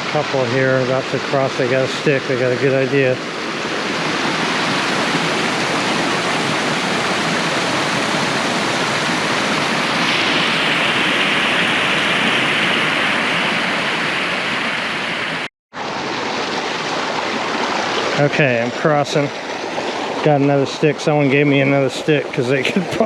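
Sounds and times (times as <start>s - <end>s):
creek rushing over rocks: 0.1s - 23.0s.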